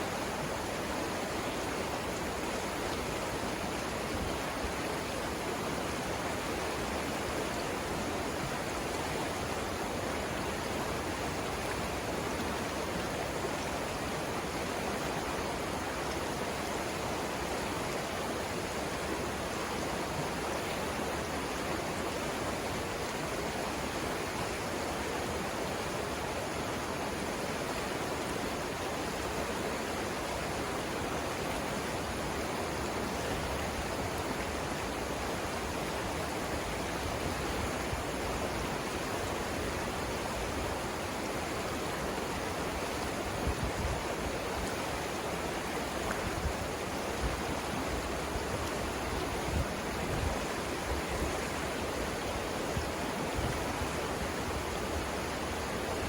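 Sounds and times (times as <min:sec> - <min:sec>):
river rushing through rapids: 0:00.0 - 0:56.0.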